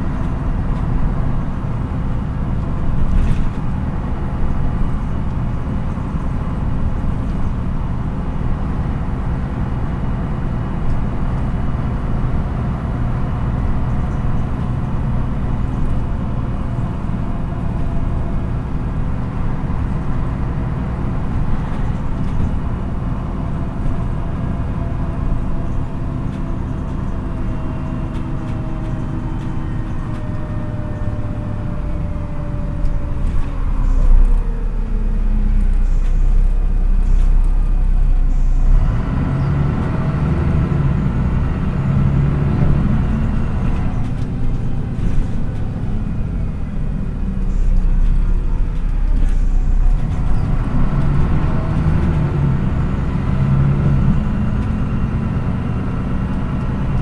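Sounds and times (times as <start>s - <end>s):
bus diesel engine running: 0.0s - 57.0s
road and tyre rumble: 0.0s - 57.0s.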